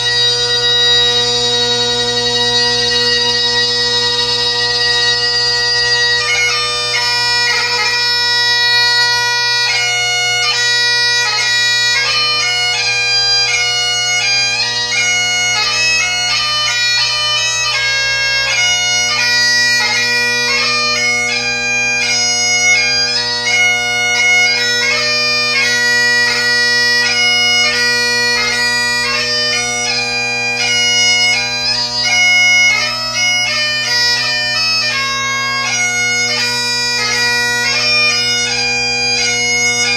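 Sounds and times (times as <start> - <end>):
bagpipe chanter melody: 0.0 - 39.9
bagpipe drones humming: 0.0 - 39.9.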